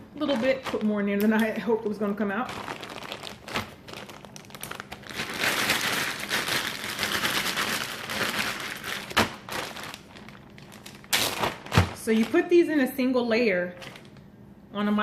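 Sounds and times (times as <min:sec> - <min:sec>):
plastic bag crinkling: 0:00.2 - 0:12.7, 0:13.7 - 0:14.3.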